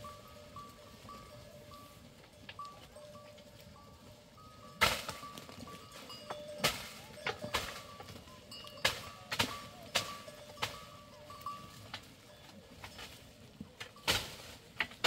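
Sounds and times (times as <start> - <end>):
goat bells clanking: 0.0 - 15.0.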